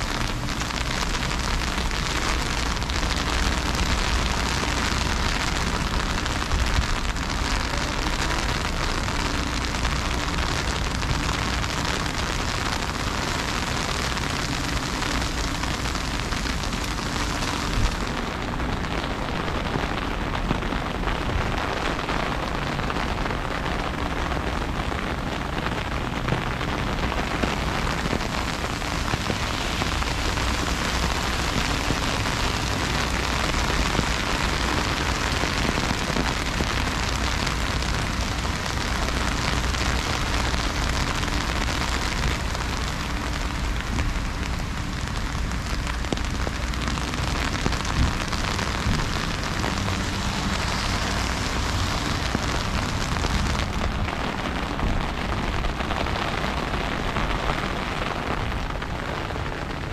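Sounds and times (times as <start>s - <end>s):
low rumble: 0.0s - 59.7s
freezing rain patter: 0.0s - 59.9s.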